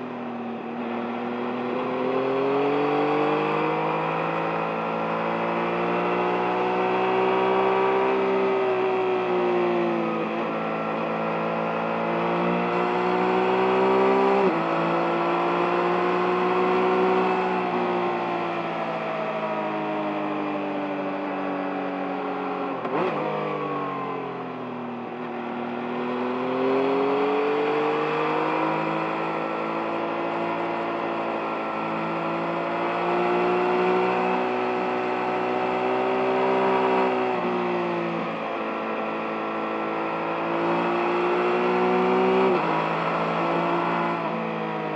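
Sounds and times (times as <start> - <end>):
motorcycle engine revving: 0.8 - 18.8, 25.2 - 44.9.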